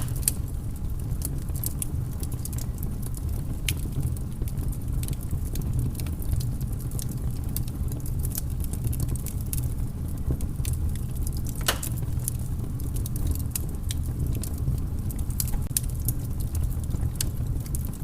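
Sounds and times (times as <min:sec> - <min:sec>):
fire popping: 0:00.0 - 0:18.0
wood fire crackling: 0:00.0 - 0:18.0.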